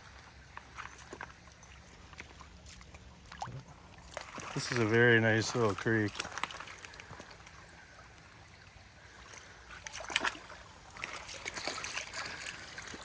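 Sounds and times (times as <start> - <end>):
creek trickling: 0.0 - 13.0
light water splashes: 0.0 - 13.0.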